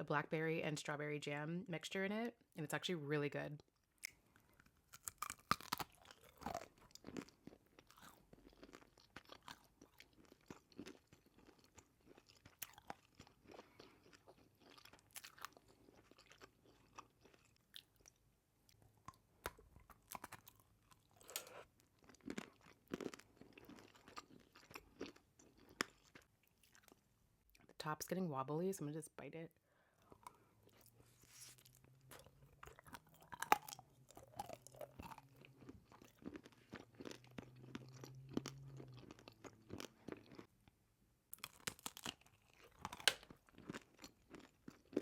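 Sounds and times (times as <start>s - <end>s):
chewing candy with crunches: 3.6s - 27.8s, 30.0s - 45.0s.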